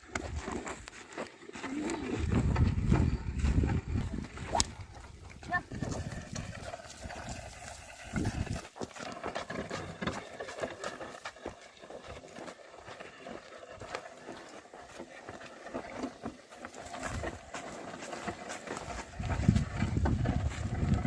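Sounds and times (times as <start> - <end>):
hooves knocking and scuffing soil: 0.0 - 21.0.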